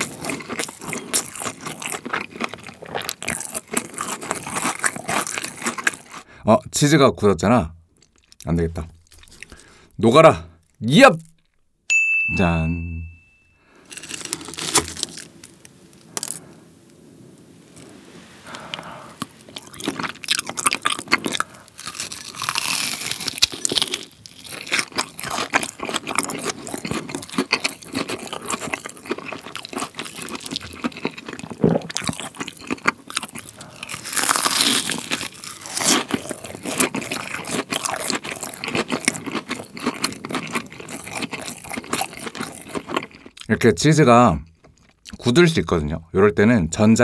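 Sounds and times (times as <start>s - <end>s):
crunching and chewing: 0.0s - 6.3s, 8.0s - 9.9s, 13.8s - 17.0s, 17.7s - 43.5s, 44.6s - 45.2s.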